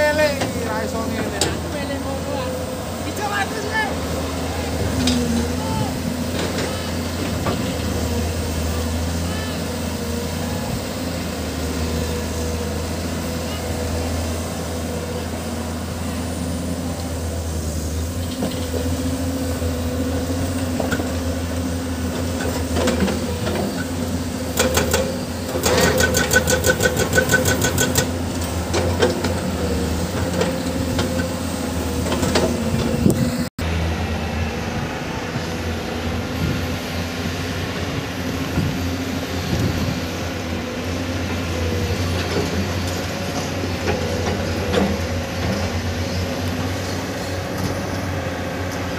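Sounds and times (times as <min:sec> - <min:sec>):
construction machinery diesel engine: 0:00.0 - 0:48.9.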